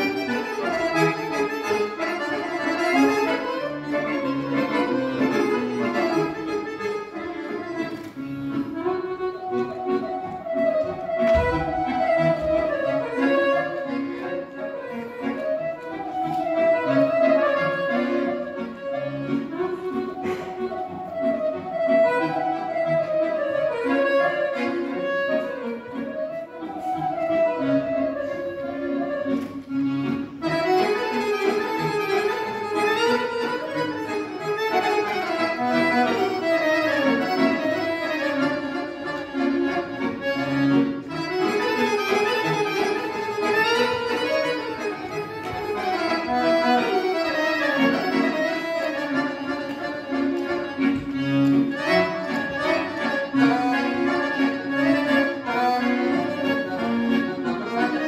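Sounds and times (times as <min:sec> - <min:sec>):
solo accordion playing: 0:00.0 - 0:58.0.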